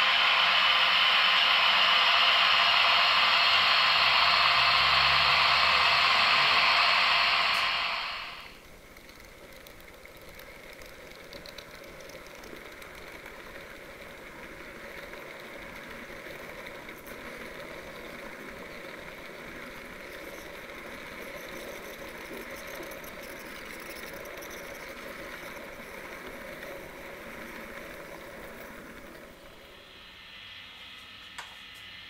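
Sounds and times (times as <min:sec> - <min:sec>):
loud steady hiss: 0:00.0 - 0:32.0
model train running on track: 0:00.0 - 0:32.0.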